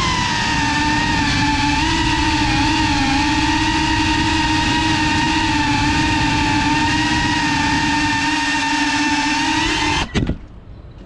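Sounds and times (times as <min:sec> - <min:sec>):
drone propellers buzzing whine: 0:00.0 - 0:11.0.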